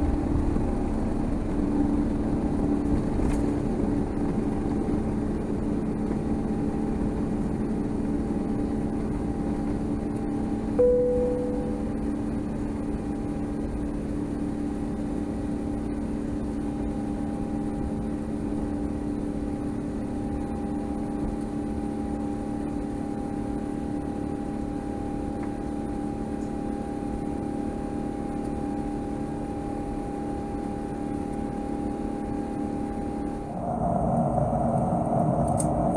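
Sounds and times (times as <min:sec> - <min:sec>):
constant tonal drone: 0:00.0 - 0:35.6
airliner cabin engine rush: 0:00.0 - 0:35.9.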